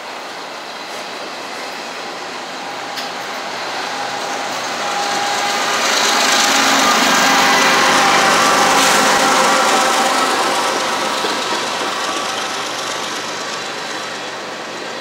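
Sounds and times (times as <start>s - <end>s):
freight cars rolling on rails: 0.0s - 15.0s
locomotive engine hum and whine: 0.0s - 15.0s.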